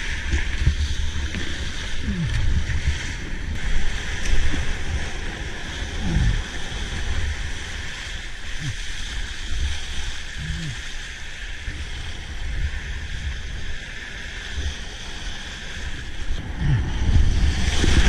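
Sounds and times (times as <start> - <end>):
wind buffeting microphone: 0.0 - 11.0, 11.6 - 18.0
choppy water and spray: 0.0 - 18.0.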